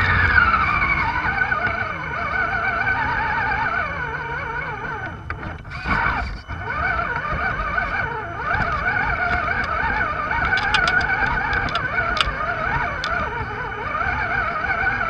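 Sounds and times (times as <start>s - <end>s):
electric motor and gearbox whining: 0.0s - 15.0s.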